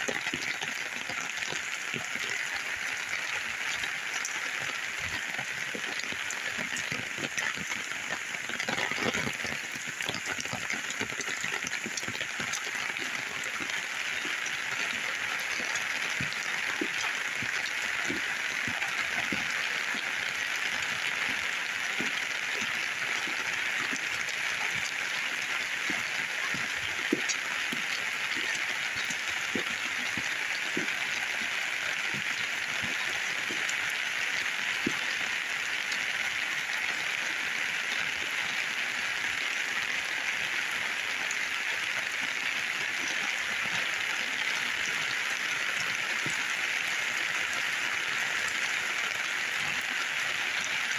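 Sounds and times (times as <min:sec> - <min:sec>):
heavy rain: 0:00.0 - 0:50.9
raindrops ticking: 0:00.0 - 0:50.9.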